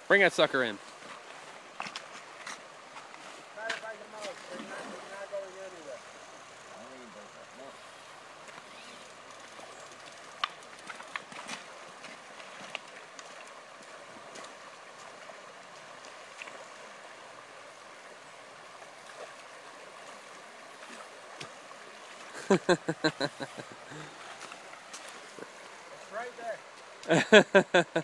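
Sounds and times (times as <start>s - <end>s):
river rushing over stones: 0.0s - 6.8s, 7.5s - 28.0s
wading steps splashing in water: 0.8s - 5.4s, 7.8s - 27.4s.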